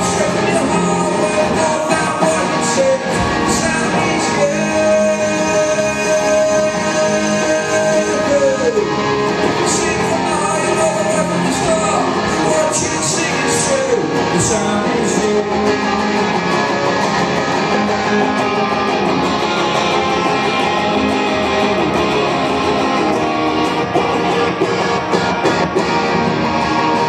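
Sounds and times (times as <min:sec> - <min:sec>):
electric guitar rock music: 0:00.0 - 0:27.0.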